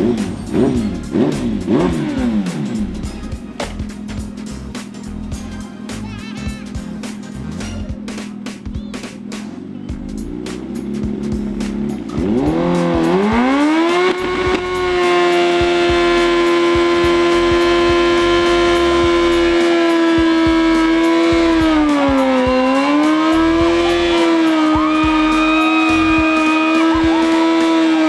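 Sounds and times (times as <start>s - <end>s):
motorcycle engine revving: 0.0s - 6.0s, 6.6s - 28.0s.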